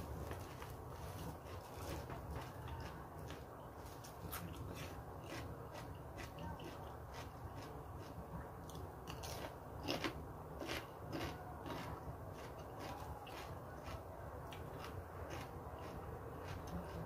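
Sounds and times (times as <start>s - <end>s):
person chewing crunchy food: 0.2s - 17.0s.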